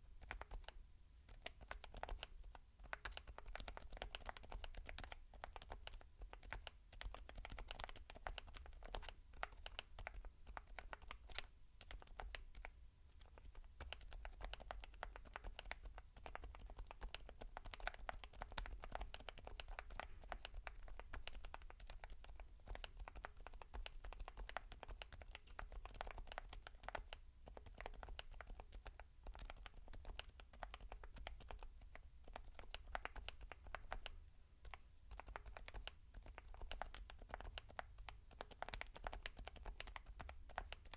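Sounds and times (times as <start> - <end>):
soft mechanical keyboard typing: 0.0 - 40.9.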